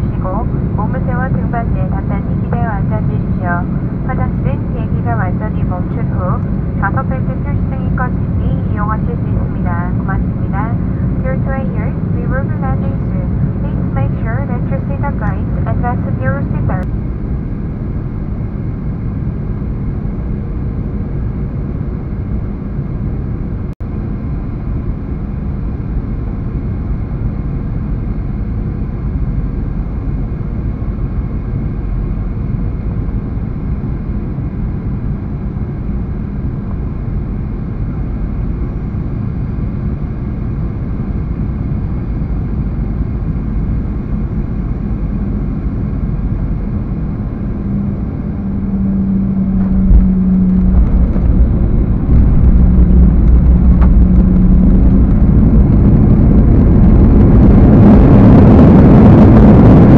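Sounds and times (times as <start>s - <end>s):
airliner cabin noise: 0.0s - 59.9s
low hum: 0.0s - 59.9s.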